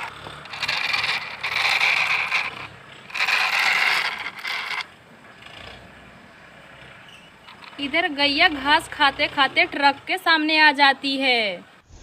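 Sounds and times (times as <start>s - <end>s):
toy truck wheels rattling: 0.0s - 9.8s.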